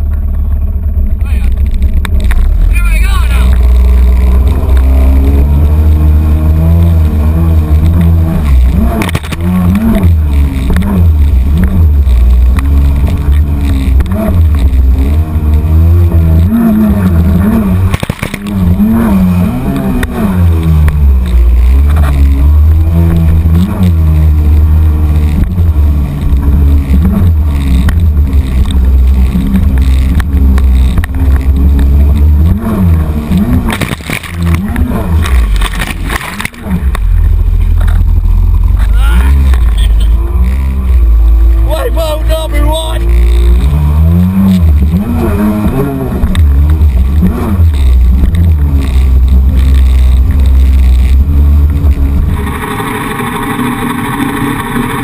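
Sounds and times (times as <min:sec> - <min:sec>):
personal watercraft engine: 0:00.0 - 0:55.0.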